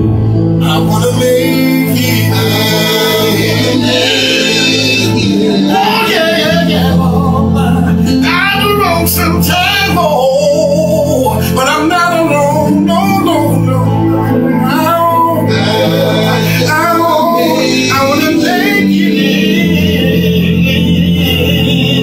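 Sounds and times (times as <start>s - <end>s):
person singing gospel song: 0.0s - 22.0s
sustained low backing notes: 0.0s - 22.0s.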